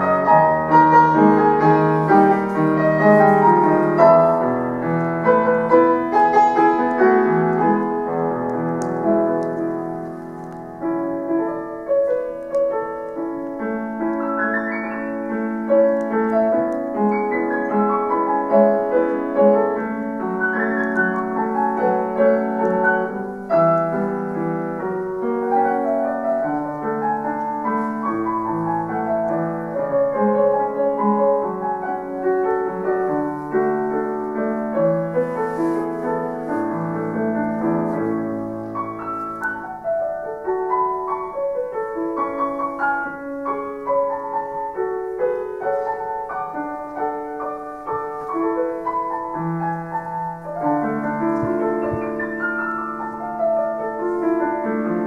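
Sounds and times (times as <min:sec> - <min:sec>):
solo grand piano playing: 0:00.0 - 0:55.0.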